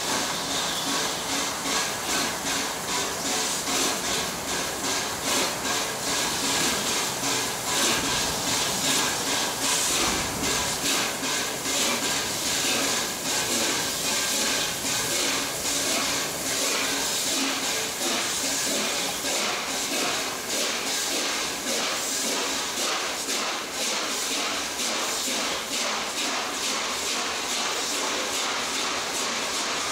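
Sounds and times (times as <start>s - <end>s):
steam hissing: 0.0s - 29.9s
steam locomotive exhaust beating: 0.0s - 29.9s.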